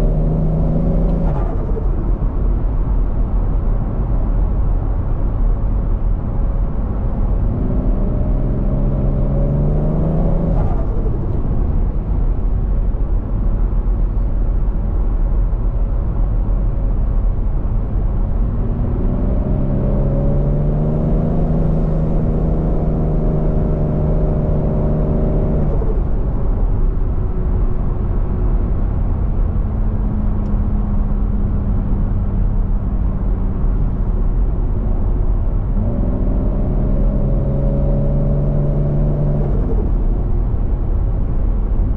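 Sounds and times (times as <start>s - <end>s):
turbocharged car engine rumbling: 0.0s - 41.9s.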